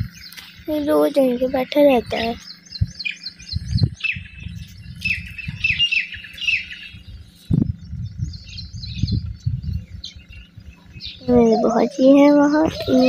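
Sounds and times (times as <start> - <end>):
low rumble: 0.0 - 13.0
small birds chirping: 0.0 - 13.0.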